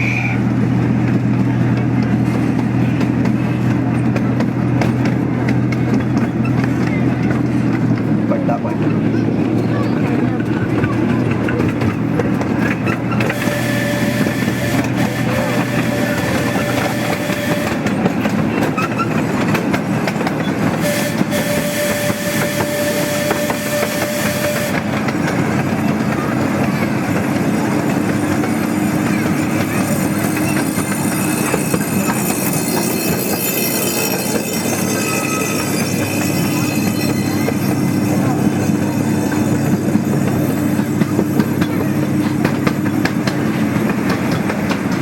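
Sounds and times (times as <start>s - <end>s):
miniature train wheels clattering: 1.0s - 45.0s.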